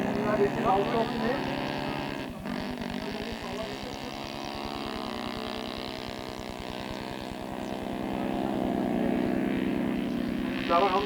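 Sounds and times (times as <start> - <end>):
model airplane engines at high throttle: 0.0 - 11.0.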